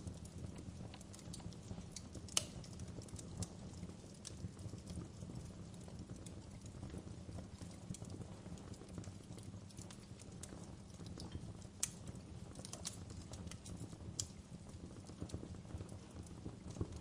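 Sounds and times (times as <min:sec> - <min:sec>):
fire crackling with pops: 0:00.0 - 0:17.0.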